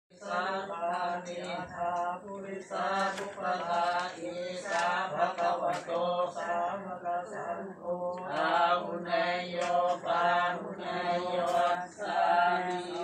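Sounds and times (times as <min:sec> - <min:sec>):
voices chanting: 0:00.1 - 0:13.0.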